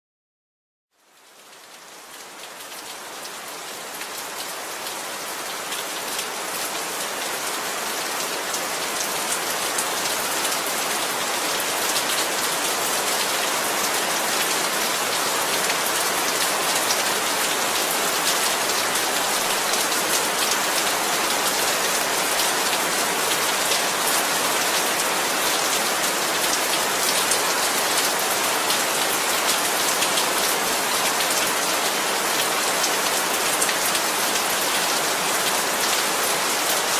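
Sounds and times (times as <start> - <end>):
heavy rain falling: 1.0 - 36.9.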